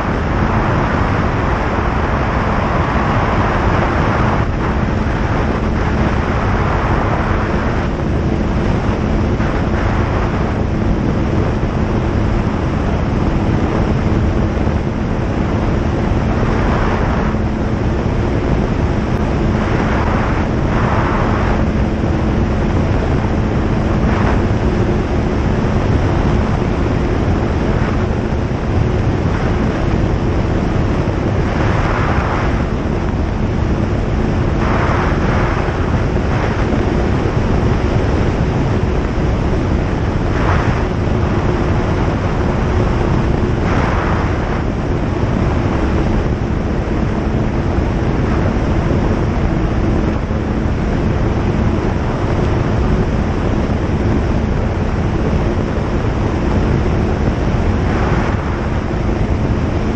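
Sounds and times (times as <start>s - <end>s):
light aircraft engine droning: 0.0s - 59.9s
loud rushing noise: 0.0s - 59.9s.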